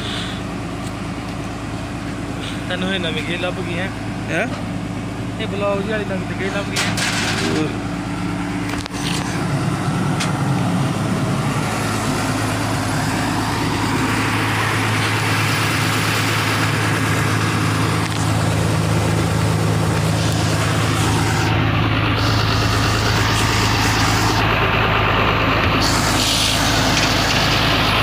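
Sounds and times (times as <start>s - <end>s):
excavator diesel engine idling: 0.0s - 28.0s.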